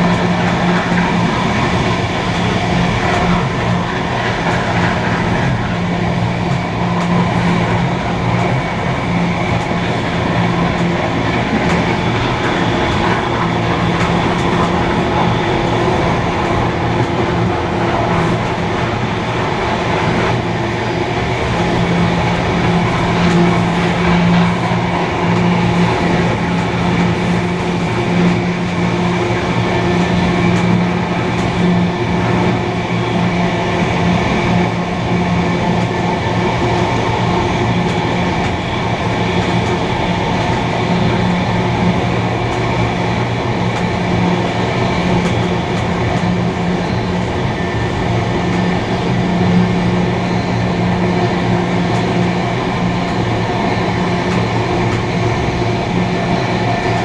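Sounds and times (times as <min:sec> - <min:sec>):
steam train rumbling: 0:00.0 - 0:57.0.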